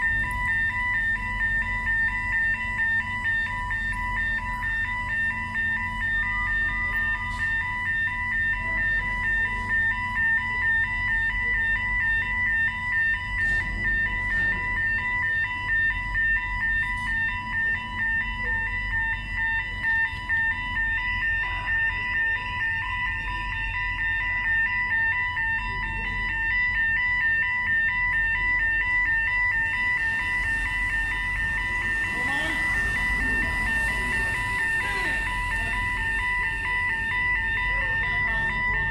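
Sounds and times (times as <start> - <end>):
higher beeping tone: 0.0 - 38.9
rapid electronic alarm beeping: 0.0 - 38.9
ship engines rumbling: 0.0 - 38.9.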